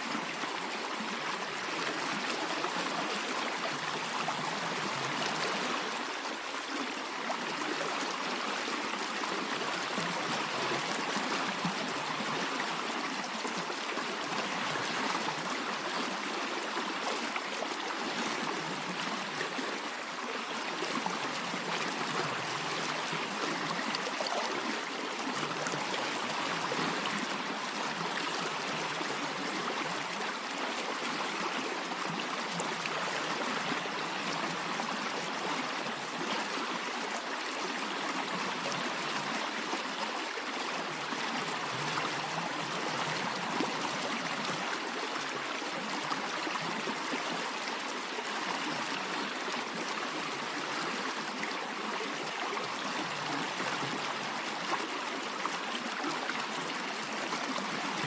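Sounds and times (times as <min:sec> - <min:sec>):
stream of water flowing: 0:00.0 - 0:58.0.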